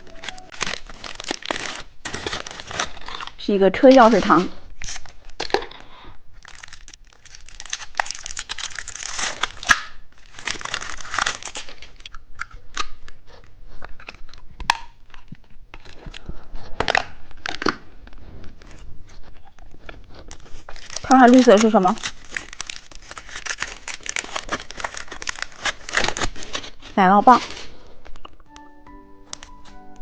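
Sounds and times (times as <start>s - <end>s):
plastic wrapper crinkling: 0.0s - 30.0s.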